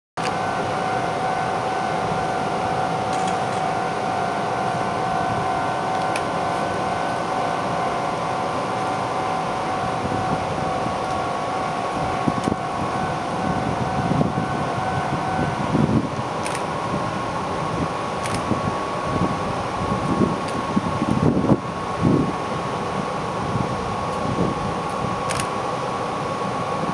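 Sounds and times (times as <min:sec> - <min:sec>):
electric train humming: 0:00.2 - 0:26.9.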